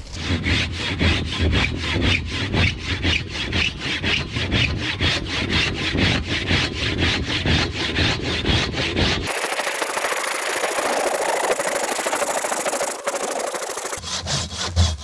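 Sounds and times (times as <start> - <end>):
hand saw cutting a log: 0.0 - 15.0.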